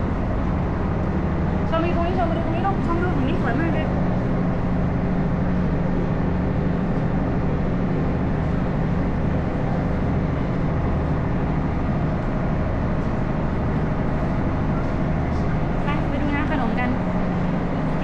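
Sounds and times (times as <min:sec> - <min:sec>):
ship engine droning: 0:00.0 - 0:18.0.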